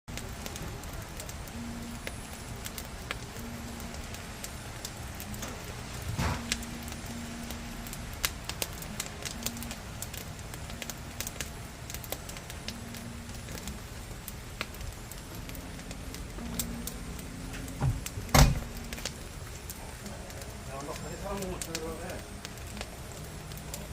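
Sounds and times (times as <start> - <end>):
fire low rush: 0.1 - 23.9
firewood crackling and popping: 0.1 - 23.9.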